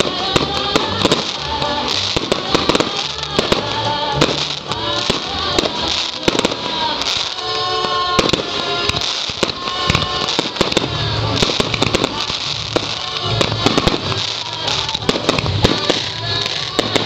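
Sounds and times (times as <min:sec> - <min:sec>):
fireworks bursting and crackling: 0:00.0 - 0:17.0
music playing: 0:00.0 - 0:17.0.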